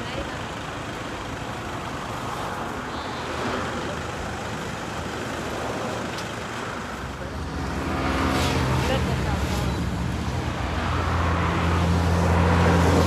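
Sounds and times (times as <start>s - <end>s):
highway traffic noise: 0.0s - 13.0s
vehicle engine approaching: 0.0s - 13.0s.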